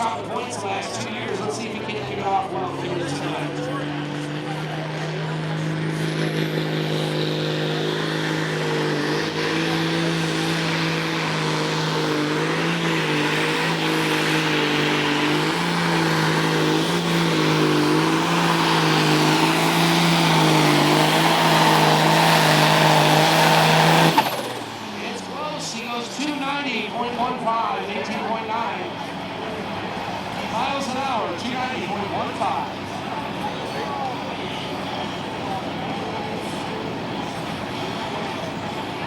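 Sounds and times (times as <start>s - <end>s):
tractor engine at high revs: 0.0s - 39.0s.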